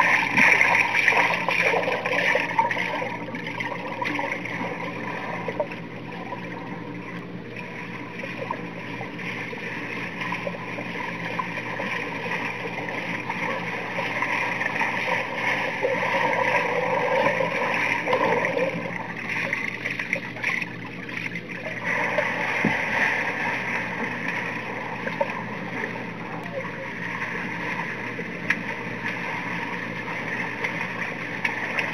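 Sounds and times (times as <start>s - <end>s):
swimmer's strokes splashing: 0.0s - 5.9s, 7.5s - 31.9s
underwater hiss and hum: 0.0s - 31.9s.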